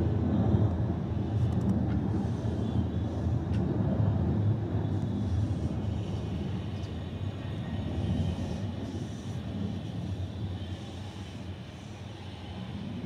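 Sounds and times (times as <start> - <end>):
jet airliner rumbling overhead: 0.0 - 13.0.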